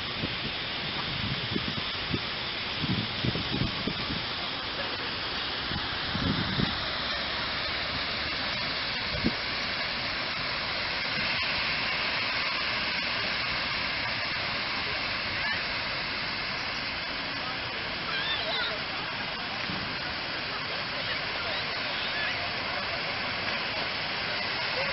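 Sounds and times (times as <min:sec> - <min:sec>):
fountain water splashing: 0:00.0 - 0:24.9.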